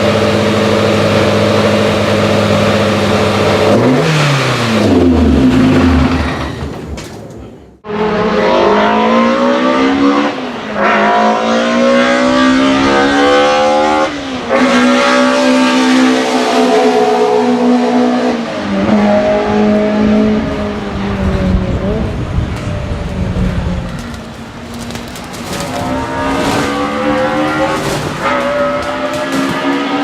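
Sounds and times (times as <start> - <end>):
race car engine accelerating: 0.0 - 6.6, 7.8 - 23.8, 25.3 - 30.0.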